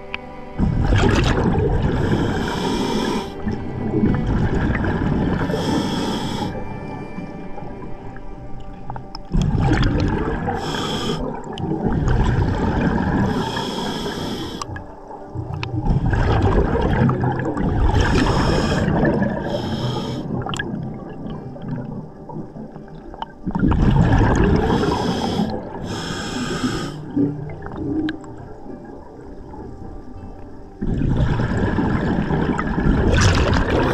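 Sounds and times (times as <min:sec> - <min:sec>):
exhaled bubbles gushing underwater: 0:00.6 - 0:33.9.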